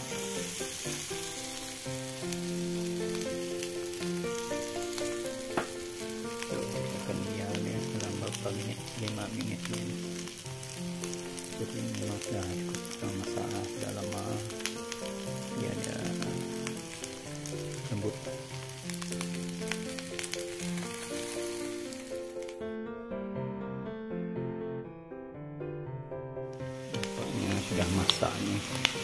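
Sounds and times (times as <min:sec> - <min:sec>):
beans sizzling in oil: 0:00.0 - 0:22.6, 0:26.6 - 0:29.0
soft background melody: 0:00.0 - 0:29.0.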